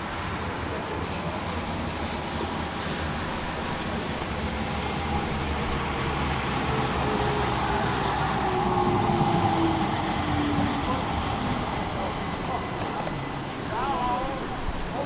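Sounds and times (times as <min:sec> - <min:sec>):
low rumble of traffic: 0:00.0 - 0:15.0
tram motor whine: 0:00.0 - 0:15.0.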